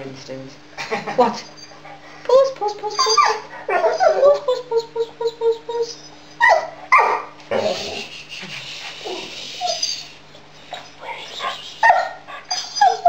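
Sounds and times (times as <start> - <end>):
dog whining: 1.4 - 13.0.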